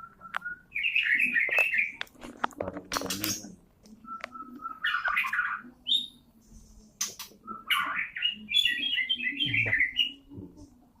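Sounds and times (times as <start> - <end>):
songbird singing: 0.0 - 2.2, 2.9 - 6.4, 7.0 - 10.9.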